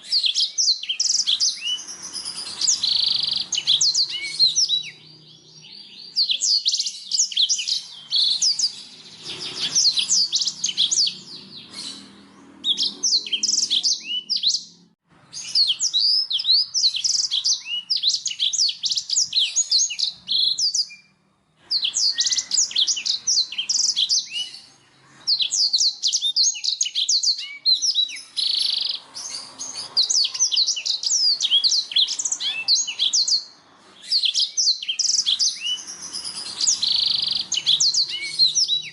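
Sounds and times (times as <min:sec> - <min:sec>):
canary singing twittering phrases: 0:00.0 - 0:38.9.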